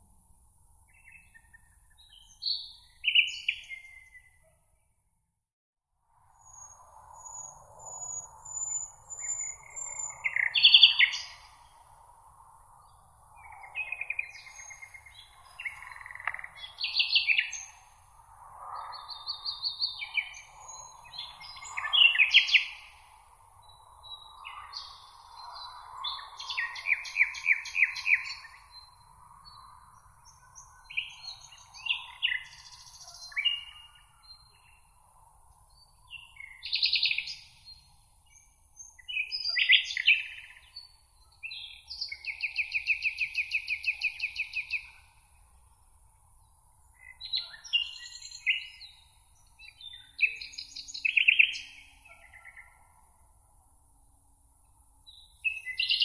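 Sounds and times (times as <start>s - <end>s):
songbirds chirping and trilling: 0.7s - 4.6s, 6.4s - 56.0s.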